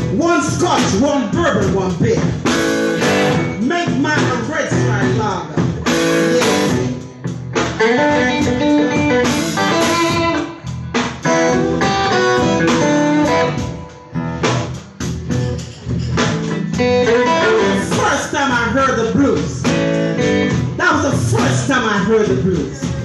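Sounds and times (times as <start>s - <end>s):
blues band playing: 0.0s - 23.0s.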